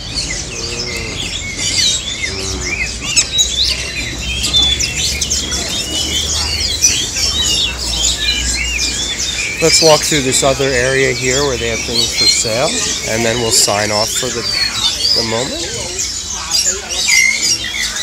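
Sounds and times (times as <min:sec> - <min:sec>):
caged birds chirping: 0:00.0 - 0:18.0.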